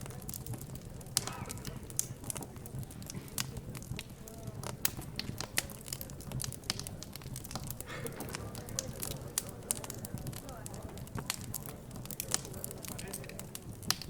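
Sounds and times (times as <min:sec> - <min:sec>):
faint background chatter: 0:00.0 - 0:14.0
wood fire crackling: 0:00.0 - 0:14.0.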